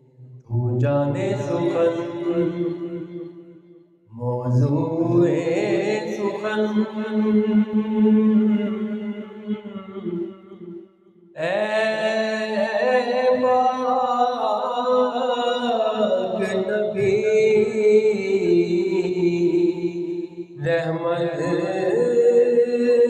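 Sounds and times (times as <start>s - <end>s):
man singing unaccompanied: 0.0s - 2.9s, 4.1s - 10.2s, 11.4s - 20.0s, 20.6s - 23.0s.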